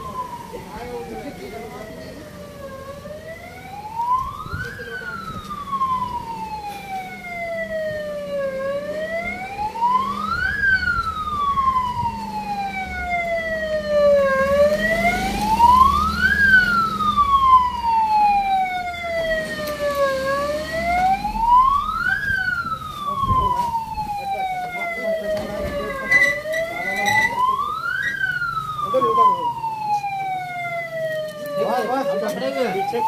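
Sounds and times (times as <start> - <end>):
ambulance siren wailing: 0.0 - 33.0.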